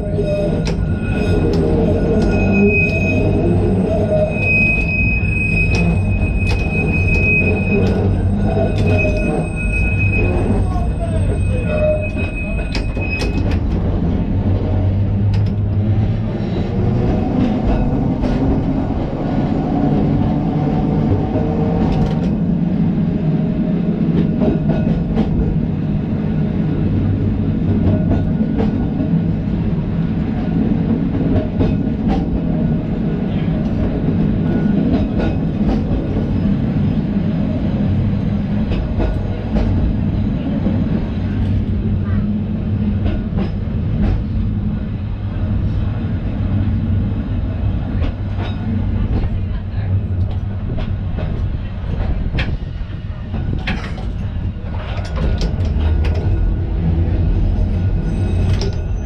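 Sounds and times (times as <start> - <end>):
tram wheels rumbling on rails: 0.0 - 59.0.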